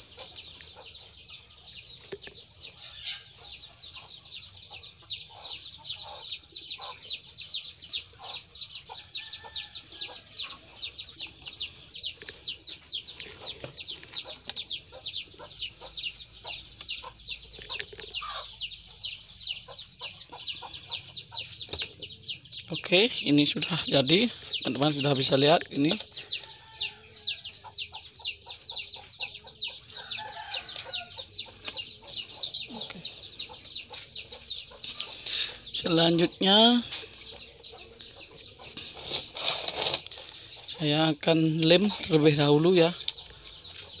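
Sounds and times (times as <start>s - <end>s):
bird peeping: 0.0s - 44.0s.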